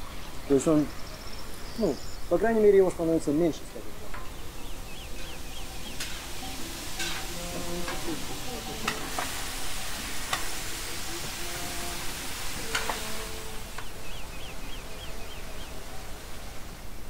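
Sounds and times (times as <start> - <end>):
vegetables sizzling: 0.0 - 16.8.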